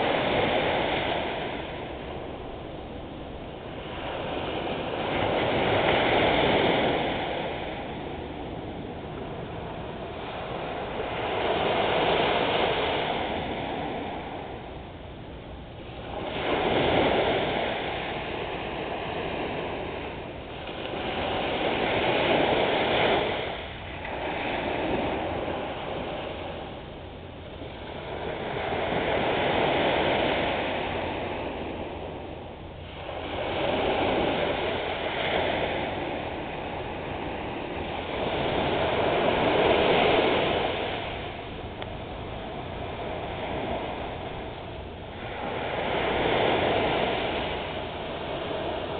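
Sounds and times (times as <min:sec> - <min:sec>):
waves washing up a beach: 0:00.0 - 0:48.9.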